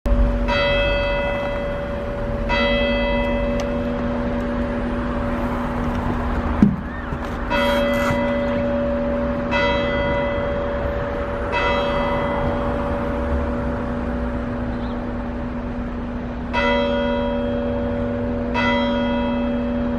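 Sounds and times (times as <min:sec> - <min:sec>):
church bell tolling: 0:00.1 - 0:05.4, 0:06.9 - 0:19.9.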